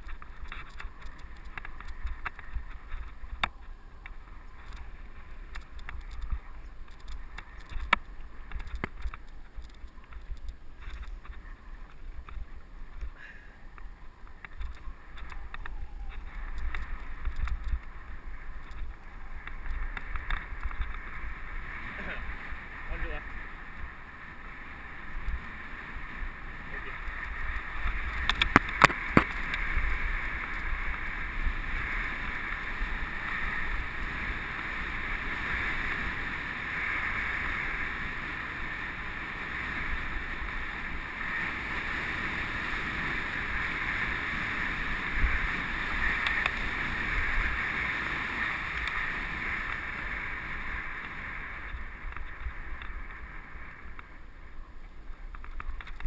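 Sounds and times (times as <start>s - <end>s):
wind and tyres rushing: 0.0s - 56.0s.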